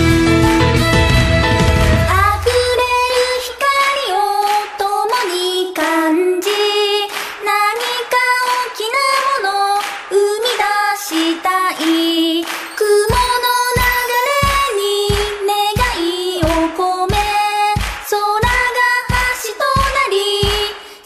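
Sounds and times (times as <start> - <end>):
high voice singing: 2.1 - 20.7.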